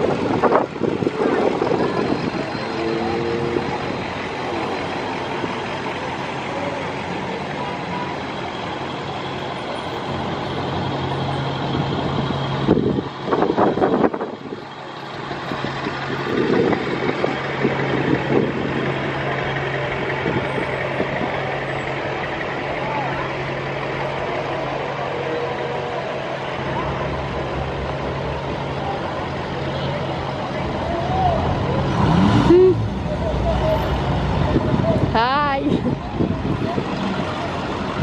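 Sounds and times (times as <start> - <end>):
loud rushes of noise: 0.0 - 38.0
trucks driving past: 0.0 - 38.0.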